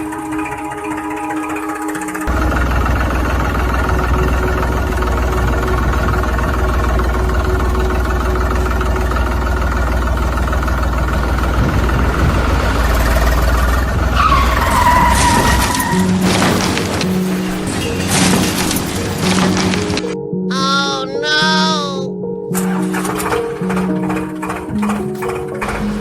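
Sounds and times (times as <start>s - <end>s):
engine running: 0.0s - 20.2s, 22.5s - 26.0s.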